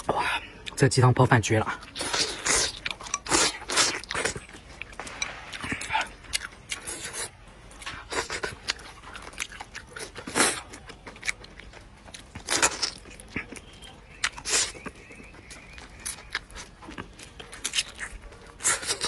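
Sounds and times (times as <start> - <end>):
person chewing food: 1.7 - 19.0.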